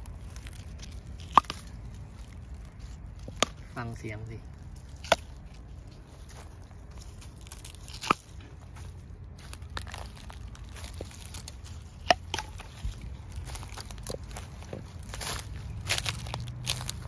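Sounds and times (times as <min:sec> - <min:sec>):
dry stalks rustling: 0:00.0 - 0:17.0
small crunches: 0:00.0 - 0:17.0.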